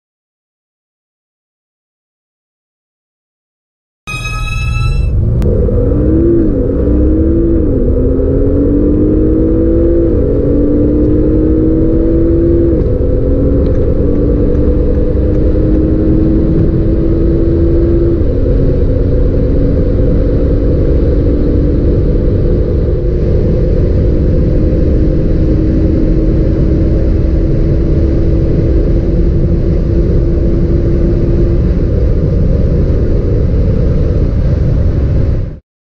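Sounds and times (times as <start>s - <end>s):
road and wind rush: 4.1s - 35.6s
car engine accelerating hard: 5.2s - 35.4s.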